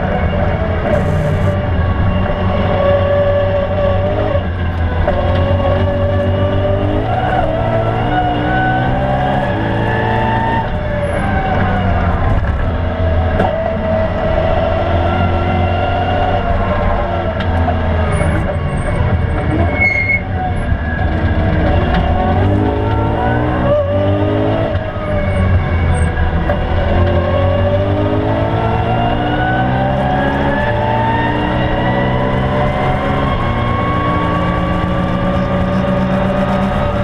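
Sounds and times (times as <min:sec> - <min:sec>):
car engine revving: 0:00.0 - 0:37.0
road and tyre noise: 0:00.0 - 0:37.0.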